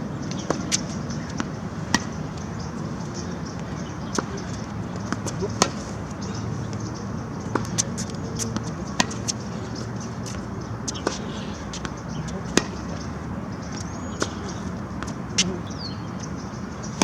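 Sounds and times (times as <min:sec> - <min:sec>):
tennis balls struck by rackets: 0:00.3 - 0:15.7.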